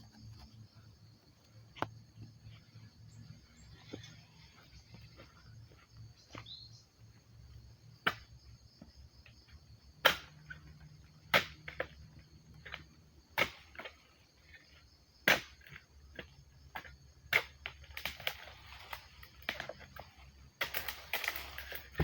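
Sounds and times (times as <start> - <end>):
insect trill: 0.0 - 22.0.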